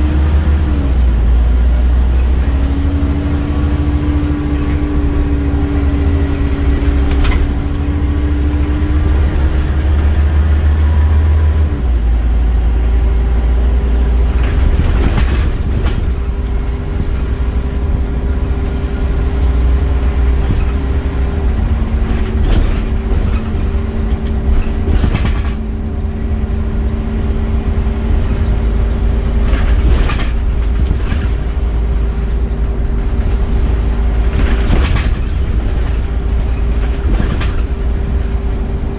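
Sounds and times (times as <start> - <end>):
bus engine rumbling with whine: 0.0 - 38.9
knocks and rattles: 0.6 - 10.7, 12.7 - 38.9.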